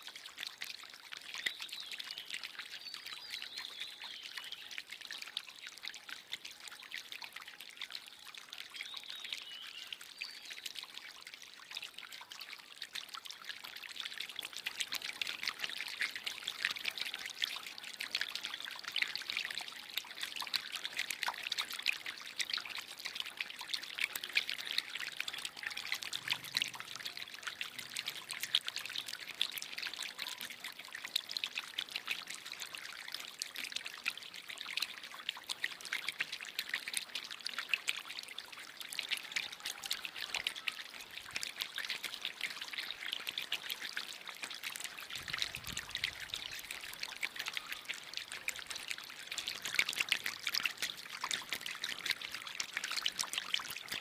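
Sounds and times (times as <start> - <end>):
water trickling over rock: 0.0 - 54.0.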